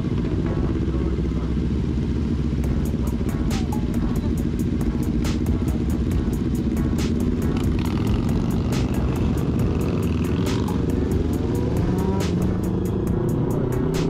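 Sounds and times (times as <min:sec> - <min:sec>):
background music with steady beat: 0:00.0 - 0:14.0
motorcycle engine running: 0:00.0 - 0:14.0.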